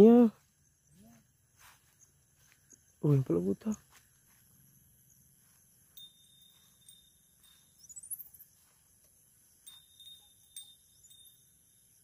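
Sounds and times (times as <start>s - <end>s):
high insect chorus: 0.0s - 12.0s
high rising chirp: 0.0s - 12.0s.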